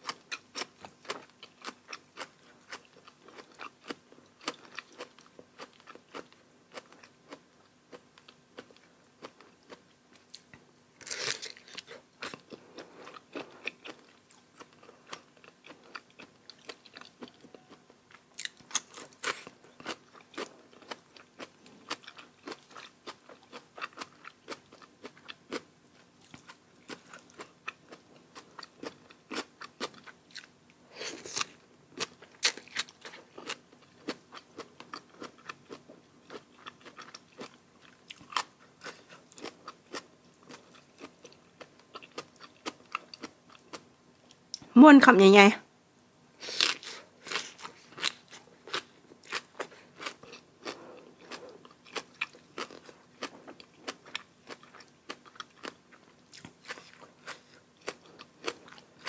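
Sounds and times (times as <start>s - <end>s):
chewing and crunching food: 0.0s - 44.7s, 46.4s - 59.0s.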